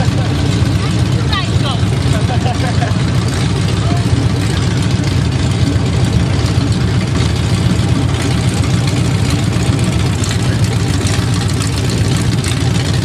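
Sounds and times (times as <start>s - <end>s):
car engines idling: 0.0s - 13.0s.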